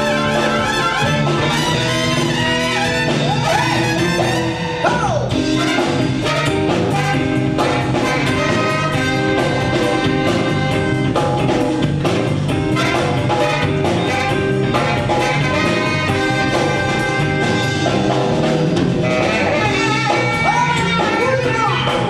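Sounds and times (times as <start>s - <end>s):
drums keeping a beat: 0.0s - 22.0s
live band with horns: 0.0s - 22.0s.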